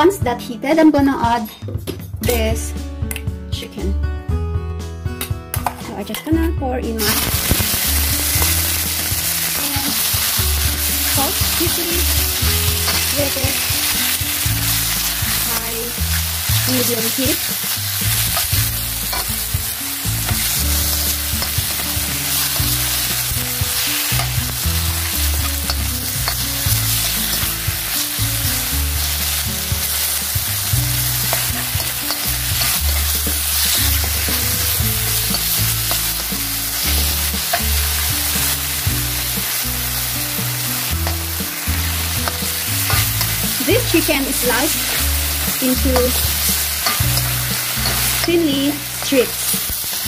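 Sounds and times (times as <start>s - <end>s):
background music: 0.0s - 50.0s
chicken sizzling in hot oil: 7.0s - 50.0s
utensil scraping wok: 7.0s - 50.0s.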